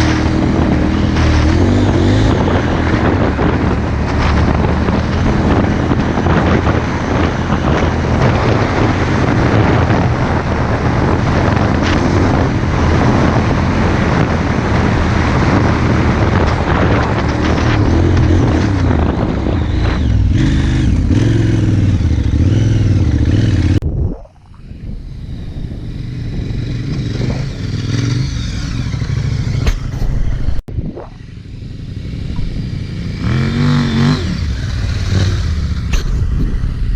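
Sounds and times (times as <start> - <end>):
motorcycle engine running: 0.0 - 23.8, 24.6 - 30.6, 31.2 - 36.9
wind rushing noise: 0.0 - 36.9.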